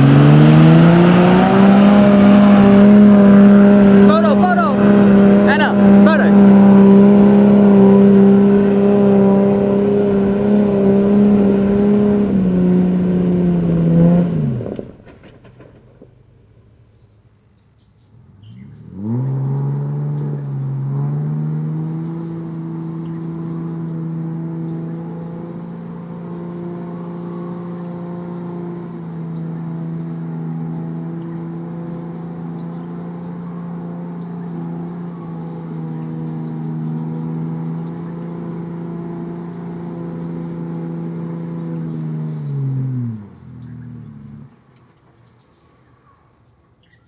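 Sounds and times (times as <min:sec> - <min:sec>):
four-wheel-drive engine running: 0:00.0 - 0:47.0.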